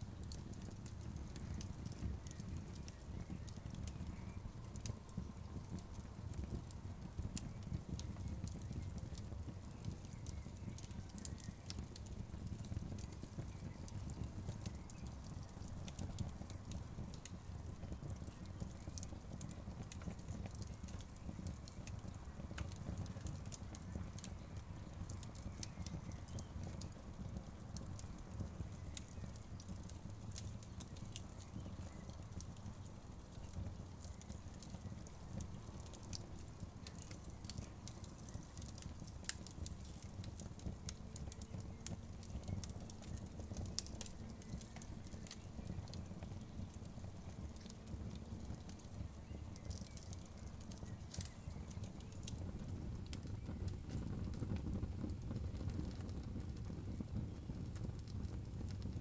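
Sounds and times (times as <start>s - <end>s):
low steady fire rumble: 0.0s - 59.0s
wood fire crackling: 0.0s - 59.0s.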